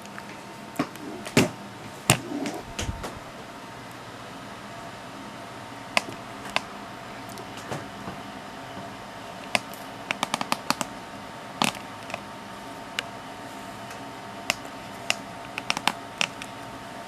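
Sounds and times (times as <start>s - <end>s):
electrical and fan hum: 0.0s - 17.0s.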